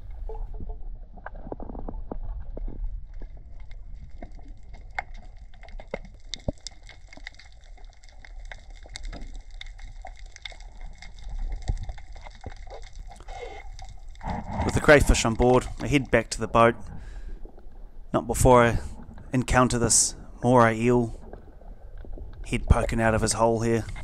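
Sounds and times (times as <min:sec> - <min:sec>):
low underwater rumble: 0:00.0 - 0:06.3, 0:10.7 - 0:24.0
underwater clicks and crackles: 0:00.0 - 0:24.0.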